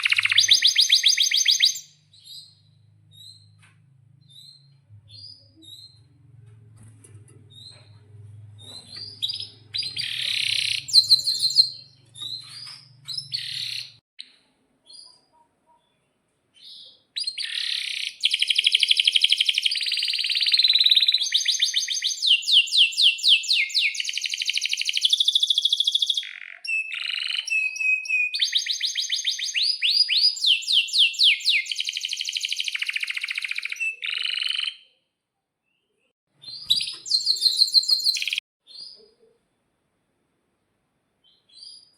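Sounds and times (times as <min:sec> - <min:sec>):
canary singing: 0:00.0 - 0:06.4, 0:07.4 - 0:14.0, 0:16.6 - 0:35.0, 0:36.4 - 0:39.3.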